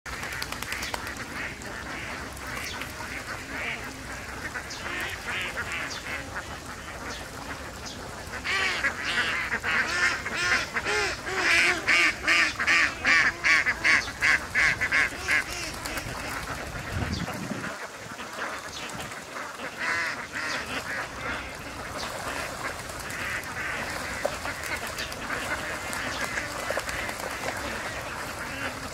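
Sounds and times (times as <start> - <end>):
ducks quacking: 0.1 - 28.9.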